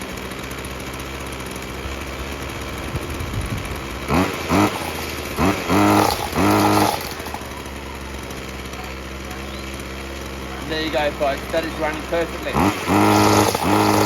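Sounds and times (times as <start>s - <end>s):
brush cutter engine revving: 0.0s - 14.0s.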